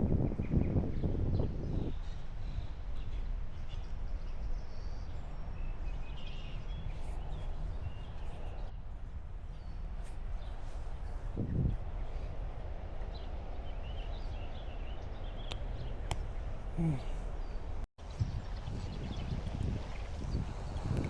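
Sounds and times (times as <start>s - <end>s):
low outdoor rumble: 1.5s - 21.0s.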